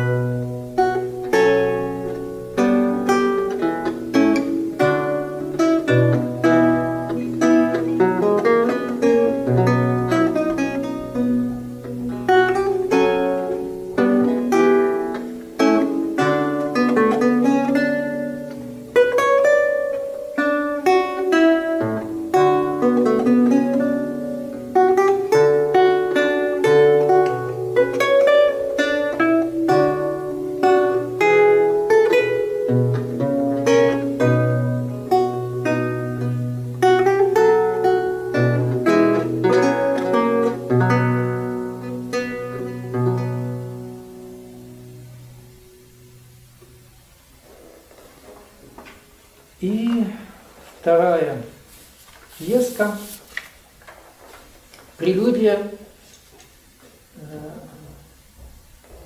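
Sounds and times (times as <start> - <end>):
lute fingerpicked melody: 0.0 - 50.1.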